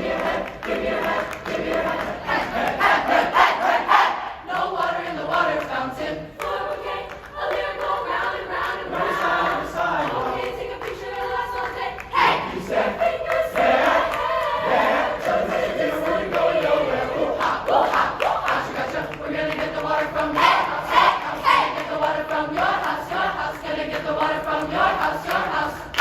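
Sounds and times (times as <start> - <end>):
choir singing in harmony: 0.0 - 26.0.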